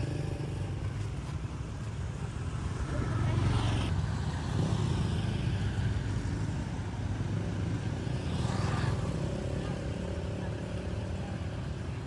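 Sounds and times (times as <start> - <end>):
low rumble of road noise: 0.0 - 12.0.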